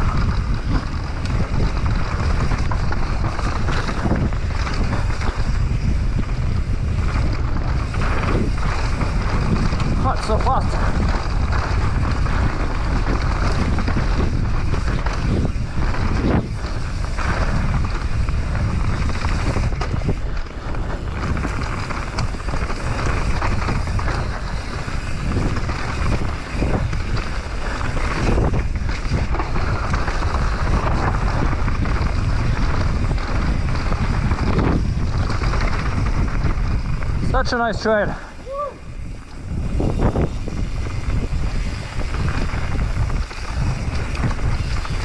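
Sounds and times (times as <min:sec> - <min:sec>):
tyres rolling on dirt: 0:00.0 - 0:45.0
wind on microphone: 0:00.0 - 0:45.0.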